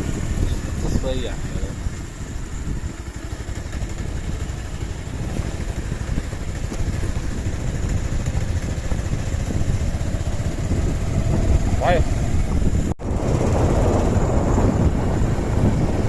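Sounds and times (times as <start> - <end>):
motorcycle engine rumble: 0.0 - 16.0
road noise: 0.0 - 16.0.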